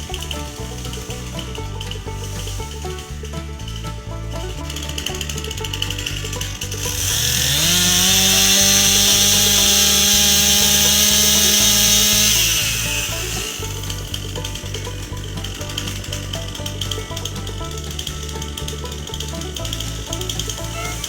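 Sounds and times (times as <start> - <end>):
background music: 0.0 - 21.0
chainsaw cutting wood: 0.0 - 21.0.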